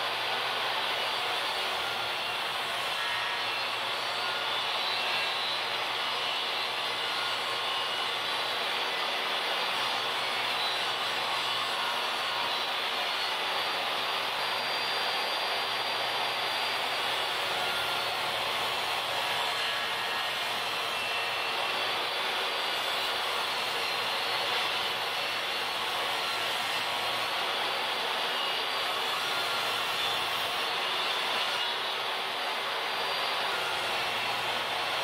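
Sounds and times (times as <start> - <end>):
table saw motor whining: 0.0 - 35.0.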